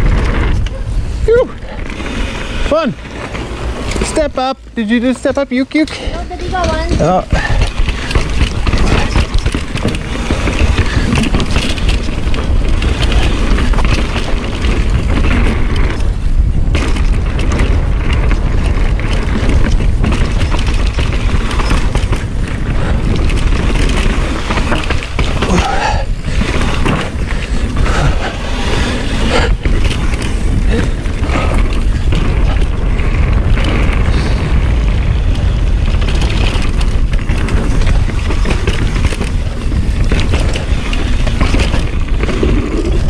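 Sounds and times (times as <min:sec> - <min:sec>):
bike knocks and rattles: 0:00.0 - 0:43.0
tyre and trail noise: 0:00.0 - 0:43.0
wind rumble on microphone: 0:00.0 - 0:43.0.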